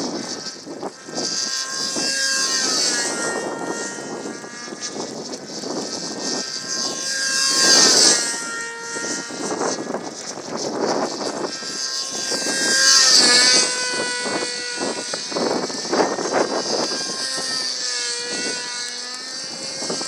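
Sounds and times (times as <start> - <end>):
model airplane engine buzzing: 0.0 - 20.0.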